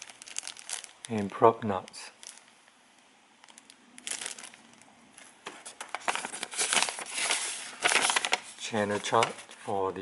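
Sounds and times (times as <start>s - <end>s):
plastic packaging crinkling: 0.0s - 2.7s, 3.4s - 9.8s.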